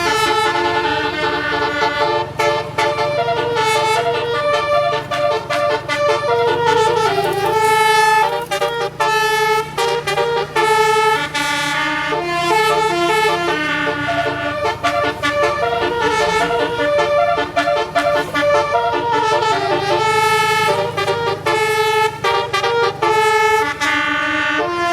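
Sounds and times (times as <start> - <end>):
multi-tone bus horn melody: 0.0 - 24.9.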